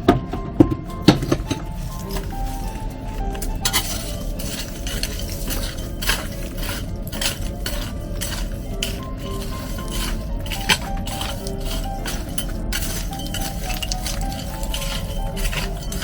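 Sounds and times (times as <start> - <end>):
faint music: 0.0 - 16.0
utensils clinking on dishes: 0.0 - 16.0.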